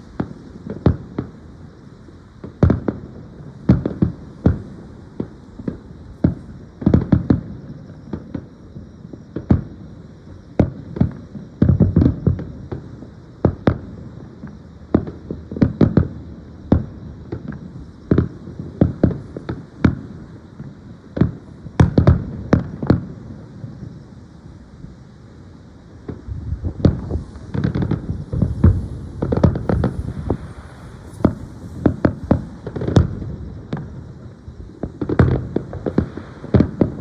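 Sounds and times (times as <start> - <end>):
fireworks booming: 0.0 - 37.0.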